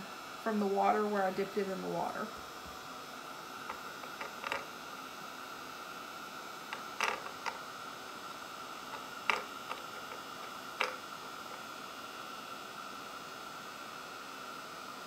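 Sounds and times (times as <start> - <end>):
heat gun blowing with hiss: 1.3 - 15.0.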